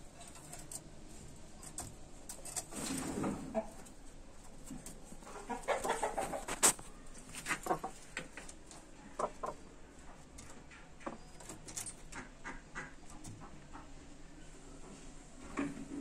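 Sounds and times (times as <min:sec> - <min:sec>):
chickens clucking: 0:00.1 - 0:16.0.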